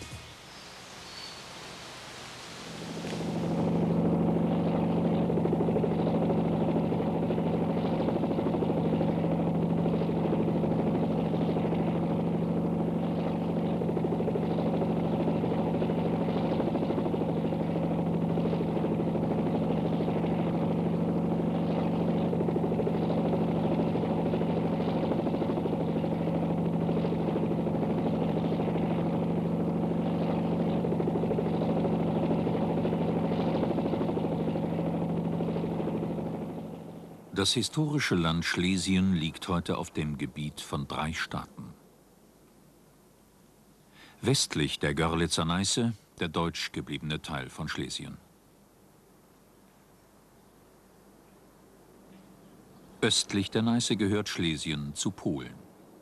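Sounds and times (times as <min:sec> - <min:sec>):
aircraft engine drone: 0:00.0 - 0:56.0.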